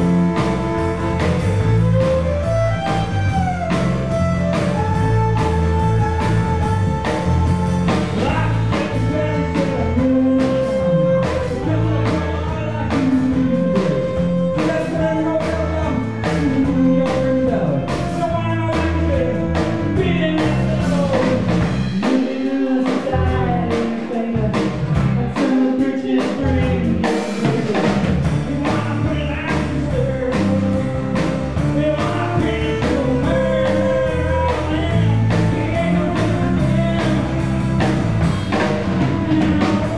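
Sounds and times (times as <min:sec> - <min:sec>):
fiddle: 0:00.0 - 0:21.8, 0:28.4 - 0:39.9
bass: 0:00.0 - 0:39.9
drum kit: 0:00.0 - 0:39.9
man singing: 0:00.0 - 0:39.9.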